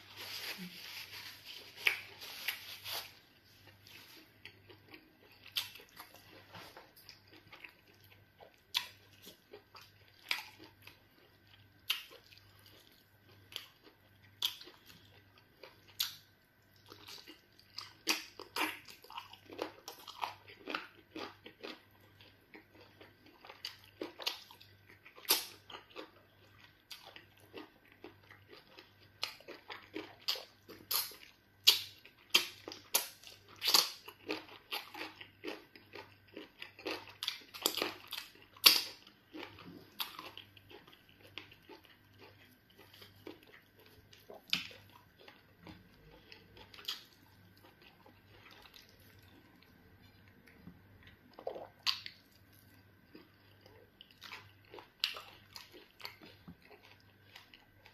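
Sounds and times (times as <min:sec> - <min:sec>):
wet chewing and lip smacking: 0:03.6 - 0:57.9.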